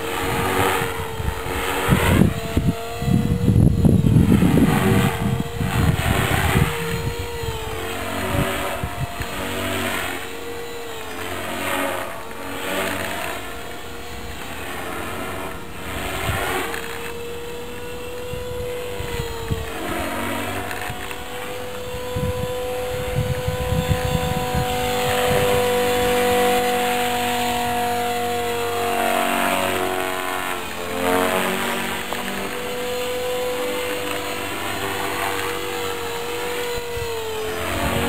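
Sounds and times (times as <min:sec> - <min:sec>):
wind rumbling on microphone: 0:00.0 - 0:28.8, 0:31.4 - 0:38.0
model aircraft motor whine: 0:00.0 - 0:38.0.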